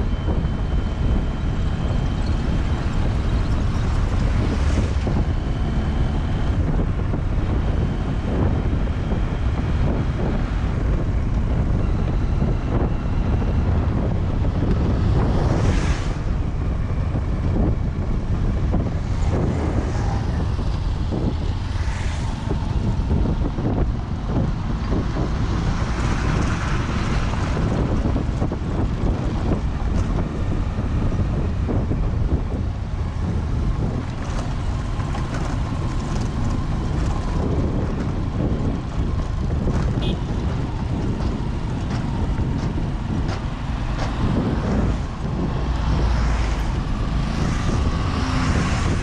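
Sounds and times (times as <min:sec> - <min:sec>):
road noise on dirt road: 0:00.0 - 0:49.0
vehicle engine: 0:00.0 - 0:49.0
wind rushing over microphone: 0:00.0 - 0:49.0.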